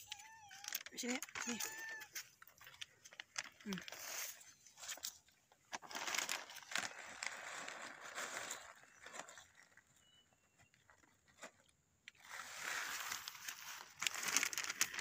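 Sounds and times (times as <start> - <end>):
plastic bag crinkling: 0.0 - 9.8, 12.2 - 15.0.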